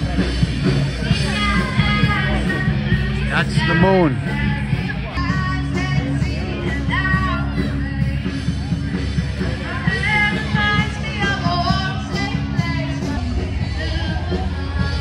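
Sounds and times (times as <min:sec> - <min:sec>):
rock music with singer: 0:00.0 - 0:15.0
steady bass: 0:00.0 - 0:15.0.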